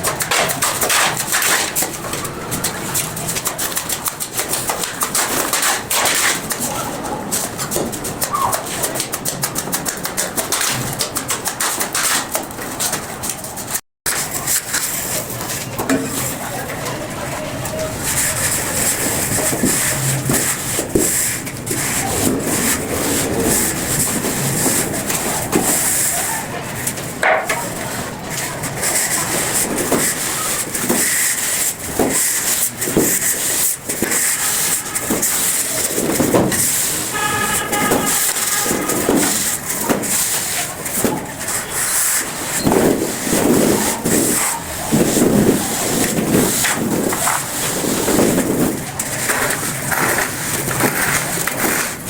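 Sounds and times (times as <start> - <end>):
plaster scraping strokes: 0.0 - 52.0.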